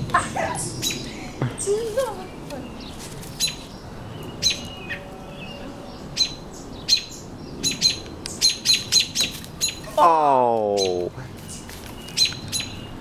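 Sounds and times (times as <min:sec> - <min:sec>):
robin alarm calls: 0:00.0 - 0:10.0, 0:10.7 - 0:13.0.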